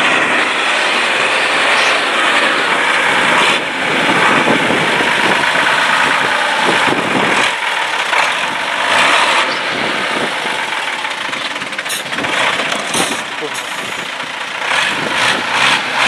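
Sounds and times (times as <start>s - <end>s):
diesel engine revving: 0.0s - 16.0s
loud steady rushing noise: 0.0s - 16.0s.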